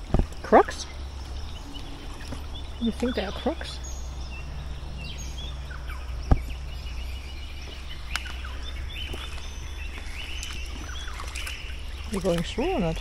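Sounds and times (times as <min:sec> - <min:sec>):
steady low rumble: 0:00.0 - 0:13.0
birds chirping and whistling: 0:00.3 - 0:13.0.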